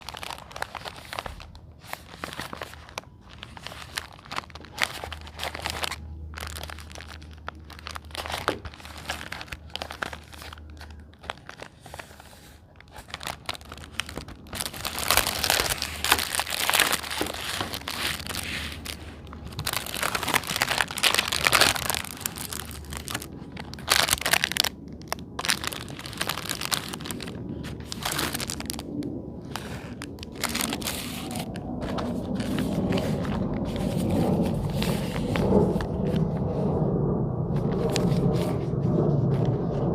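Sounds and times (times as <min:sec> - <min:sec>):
plastic packaging crinkling and tearing: 0:00.0 - 0:36.6, 0:37.5 - 0:39.9.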